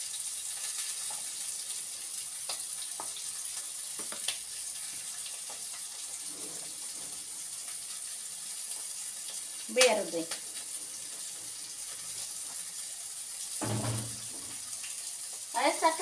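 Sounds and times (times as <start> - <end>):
fish sizzling on griddle: 0.0 - 16.0.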